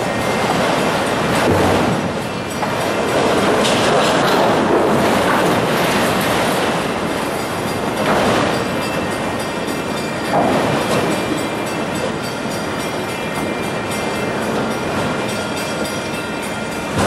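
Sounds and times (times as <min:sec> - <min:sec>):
freight train wheels rumbling and clacking: 0:00.0 - 0:17.0.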